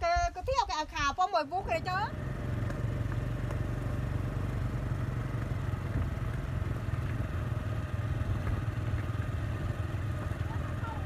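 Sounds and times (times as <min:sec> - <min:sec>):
motorbike engine rumbling: 0:00.0 - 0:11.0.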